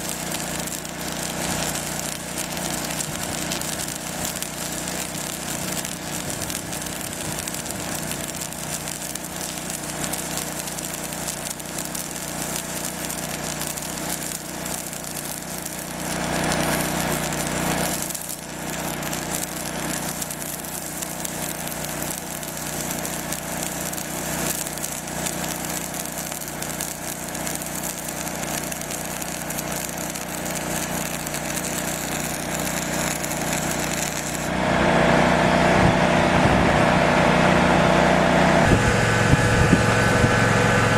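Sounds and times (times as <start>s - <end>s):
welding arc crackling and hissing: 0.0s - 34.6s
engine hum: 0.0s - 40.9s.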